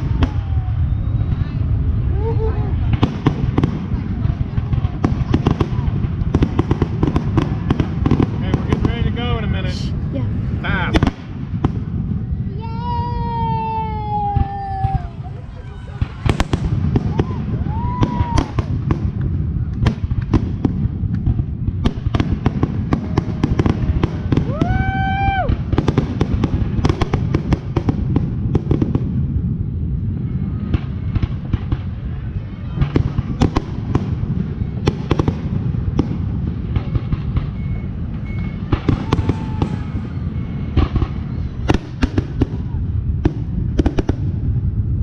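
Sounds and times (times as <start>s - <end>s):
low rumble of fireworks: 0.0s - 45.0s
sharp firework bangs: 0.0s - 45.0s.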